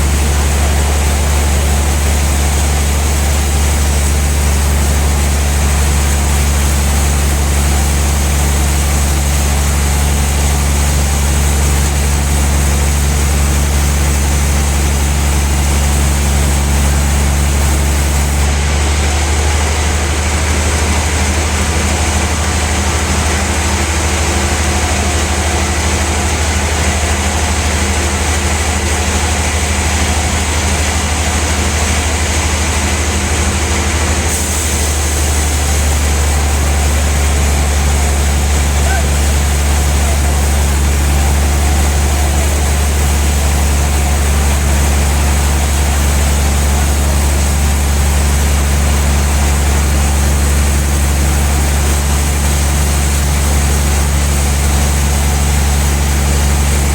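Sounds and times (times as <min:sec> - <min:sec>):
band saw machinery humming: 0:00.0 - 0:56.9.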